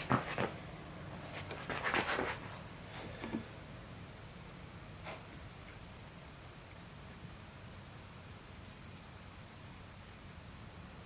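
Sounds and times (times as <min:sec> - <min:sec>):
insect chorus chirping: 0:00.0 - 0:11.0.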